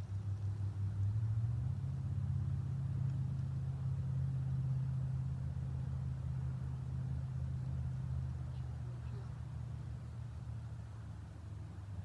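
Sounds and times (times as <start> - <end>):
steady low engine hum: 0.0 - 12.0.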